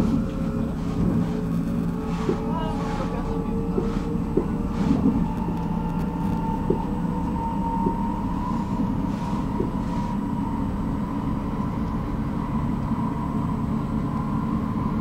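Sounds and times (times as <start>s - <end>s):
thin whine: 0.0s - 15.0s
train rumbling on track: 0.0s - 15.0s.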